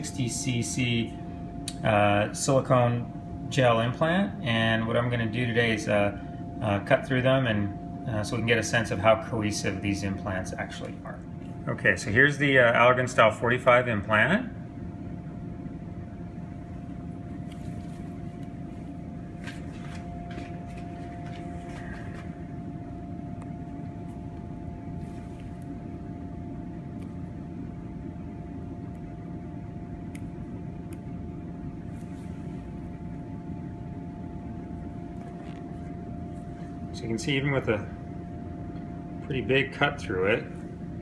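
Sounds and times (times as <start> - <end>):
low room hum: 0.0 - 41.0.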